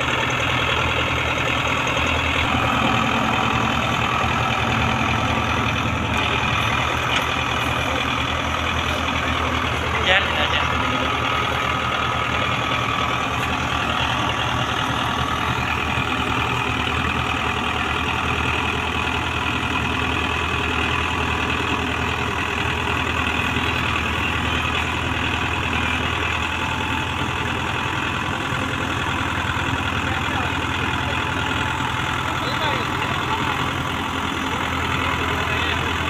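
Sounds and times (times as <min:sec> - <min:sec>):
tractor diesel engines running: 0:00.0 - 0:36.0.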